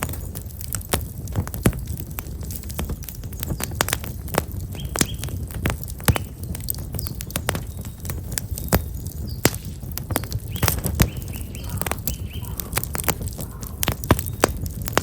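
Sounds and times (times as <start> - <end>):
firewood crackling and popping: 0.0 - 15.0
low rumble of flames: 0.0 - 15.0
small birds chirping: 2.8 - 15.0.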